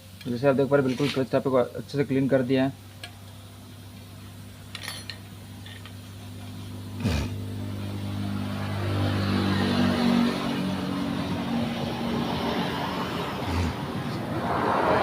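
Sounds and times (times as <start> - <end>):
engine running: 1.8 - 15.0.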